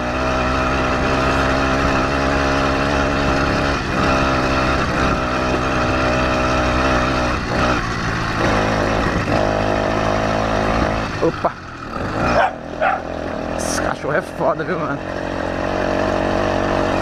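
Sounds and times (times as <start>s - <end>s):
two-stroke bicycle engine running: 0.0s - 17.0s.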